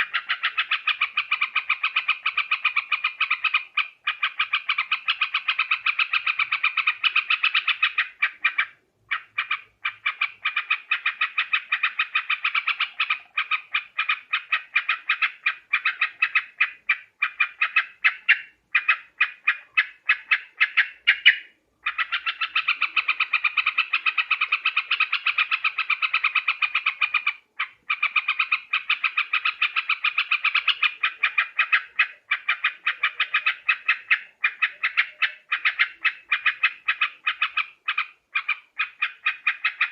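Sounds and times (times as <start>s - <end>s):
bird chattering bright notes: 0.0s - 39.9s.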